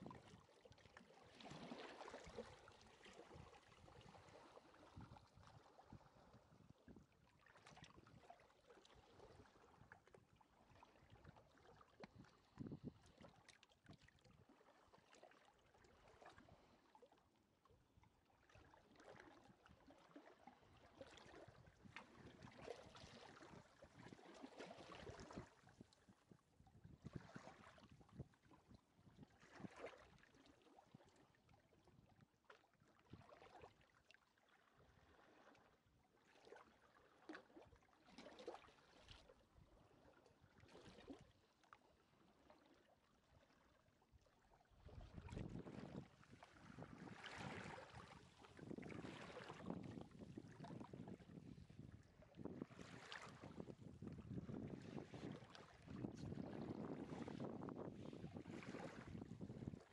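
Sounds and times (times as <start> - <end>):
small waves lapping on shore: 0.0 - 17.4, 18.0 - 59.9.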